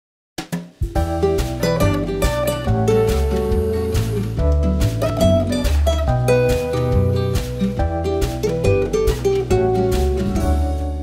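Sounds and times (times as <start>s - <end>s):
instrumental music with guitar and drums: 0.4s - 11.0s.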